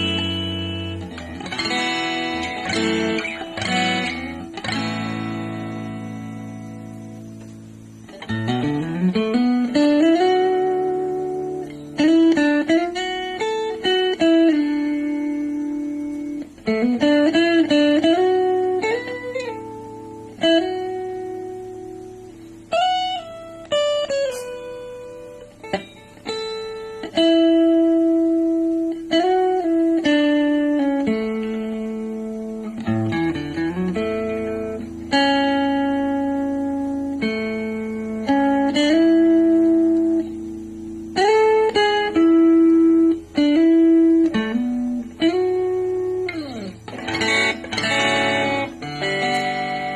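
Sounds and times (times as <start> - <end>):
electric guitar through amplifier: 0.0 - 49.9.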